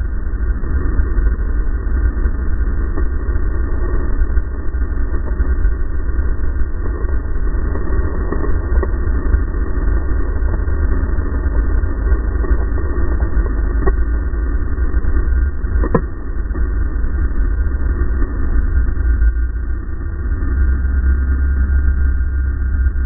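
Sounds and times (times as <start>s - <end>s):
snowmobile engine running hard: 0.0s - 23.0s.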